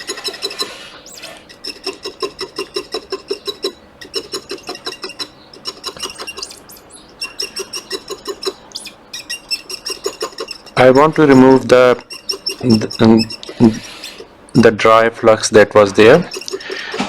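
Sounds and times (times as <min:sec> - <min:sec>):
brush scrubbing circuit board: 0:00.0 - 0:14.7, 0:15.9 - 0:17.0.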